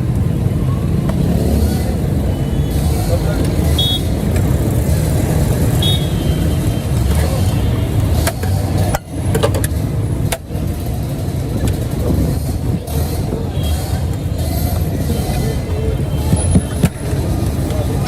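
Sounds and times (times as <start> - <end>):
busy street rumble: 0.0 - 18.0.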